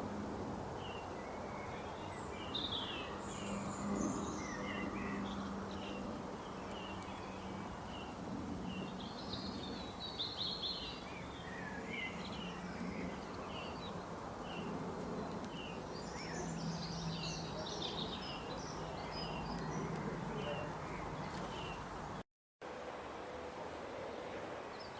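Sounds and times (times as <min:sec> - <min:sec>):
steady background hiss: 0:00.0 - 0:24.9
songbirds chirping and singing: 0:00.7 - 0:22.2.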